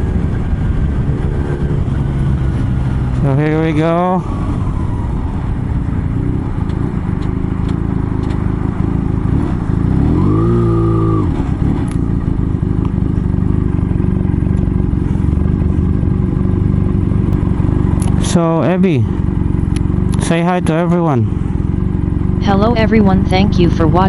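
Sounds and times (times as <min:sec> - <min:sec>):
motorcycle engine: 0:00.0 - 0:24.0
wind and road noise: 0:00.0 - 0:24.0.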